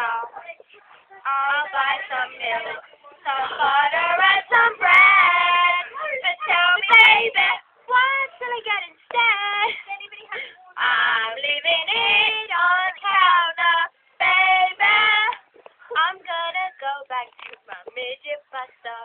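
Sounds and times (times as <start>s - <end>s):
girls singing a cappella: 0.0s - 19.0s.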